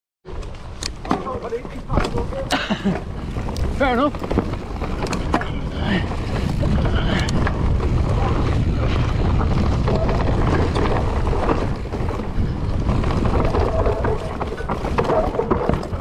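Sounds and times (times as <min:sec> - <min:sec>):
bike clicks and knocks: 0:00.3 - 0:16.0
tyres rumbling on dirt trail: 0:00.3 - 0:16.0
wind buffeting microphone: 0:00.4 - 0:16.0.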